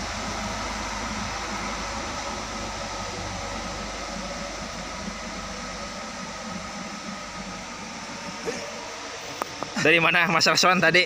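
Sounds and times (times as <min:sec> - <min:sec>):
steady hiss: 0:00.0 - 0:11.0
truck engines pulling away: 0:00.0 - 0:11.0.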